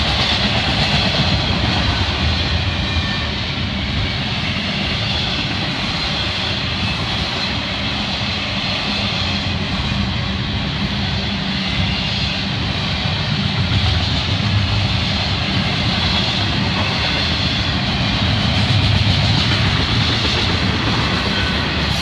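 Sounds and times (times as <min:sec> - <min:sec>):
steel wheels rattling on rails: 0:00.0 - 0:22.0.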